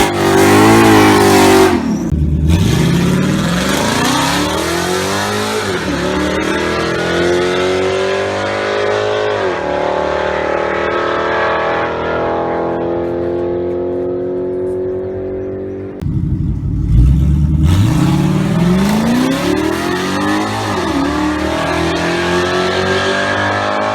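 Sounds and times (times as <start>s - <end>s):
car engine accelerating hard: 0.0s - 23.9s.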